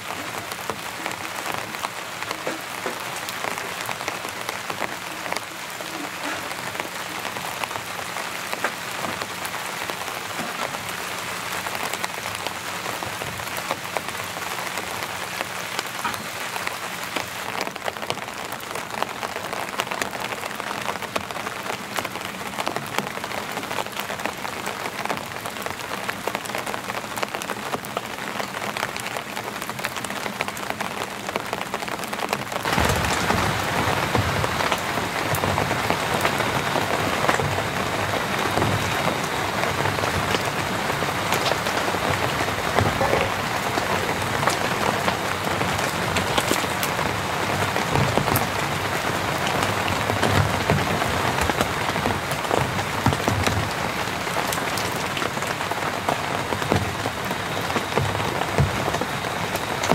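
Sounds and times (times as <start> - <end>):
rain falling on a tent: 0.0 - 59.9.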